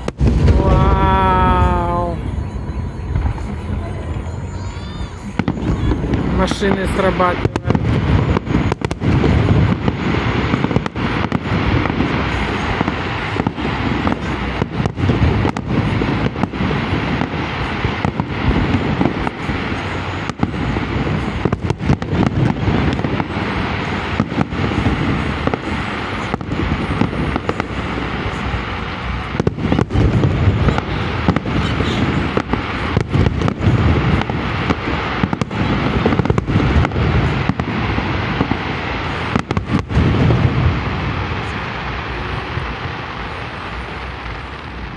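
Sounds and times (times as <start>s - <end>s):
fireworks bursting and crackling: 0.0s - 44.9s.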